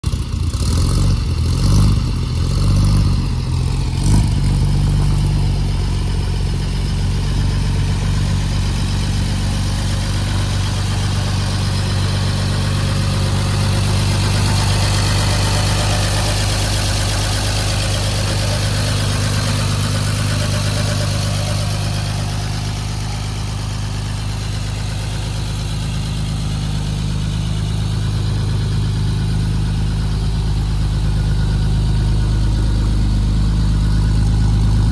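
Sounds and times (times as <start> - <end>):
pickup engine idling: 0.0 - 34.9.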